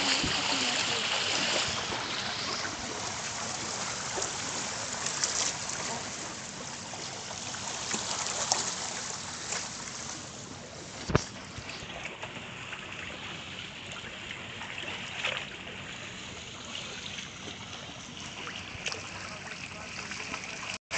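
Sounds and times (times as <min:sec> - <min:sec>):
floodwater sloshing on street: 0:00.0 - 0:20.8.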